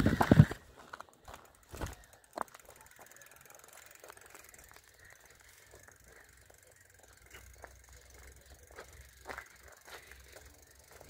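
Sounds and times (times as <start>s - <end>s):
bicycle clicks and rattles: 0.0s - 11.0s.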